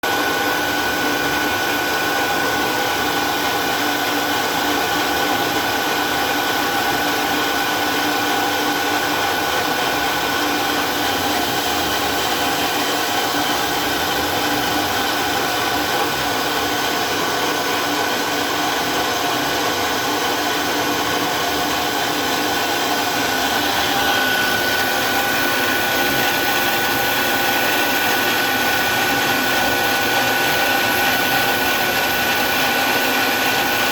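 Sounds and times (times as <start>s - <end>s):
noisy motor: 0.0s - 33.9s
milling spindle whine: 0.1s - 33.9s.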